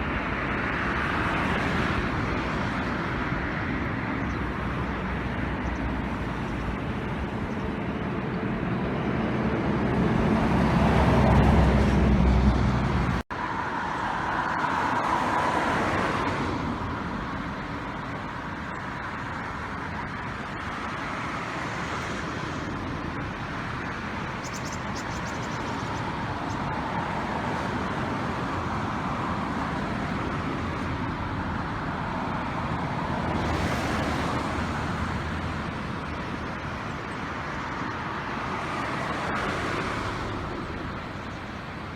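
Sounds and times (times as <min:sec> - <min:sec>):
wind buffeting microphone: 0:00.0 - 0:13.2, 0:14.1 - 0:41.9.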